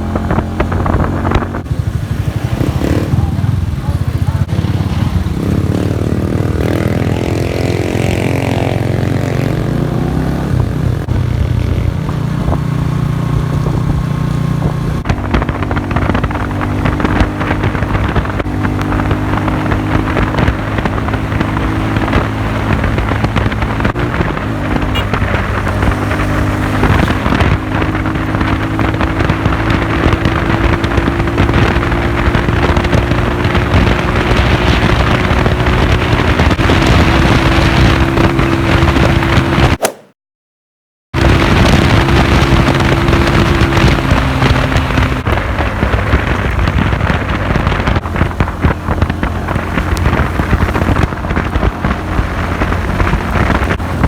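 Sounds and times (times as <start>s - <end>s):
motorcycle engine running: 0.0s - 39.8s, 41.2s - 54.0s
wind rushing over microphone: 0.0s - 40.0s, 41.2s - 54.0s.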